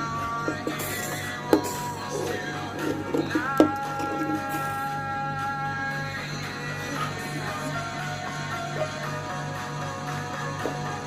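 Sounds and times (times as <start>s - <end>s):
background music with held tones: 0.0s - 11.0s.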